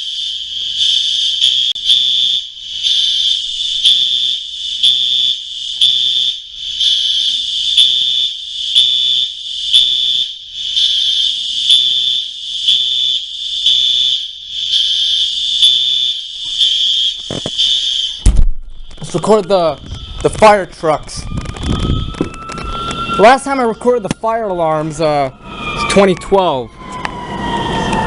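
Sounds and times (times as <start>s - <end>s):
pulsing fire alarm tone: 0.0s - 28.0s.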